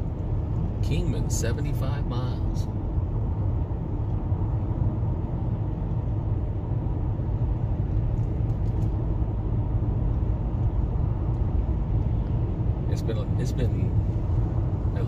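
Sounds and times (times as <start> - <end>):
car cabin driving rumble: 0.0 - 15.0.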